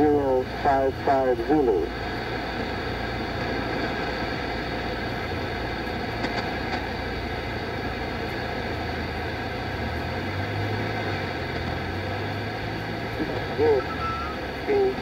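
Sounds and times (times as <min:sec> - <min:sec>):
radio static and band noise: 0:00.0 - 0:15.0.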